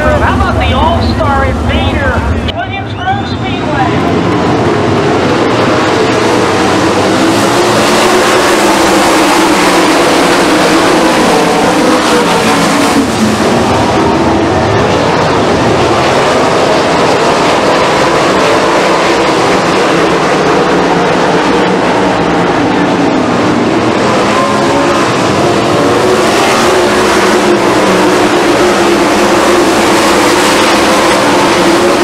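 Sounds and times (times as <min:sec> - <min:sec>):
racing car engines roaring: 0:00.0 - 0:32.0.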